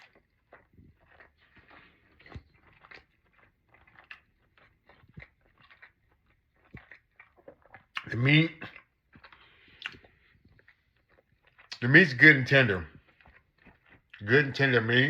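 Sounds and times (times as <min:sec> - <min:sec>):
person chewing meat: 0:00.0 - 0:15.0.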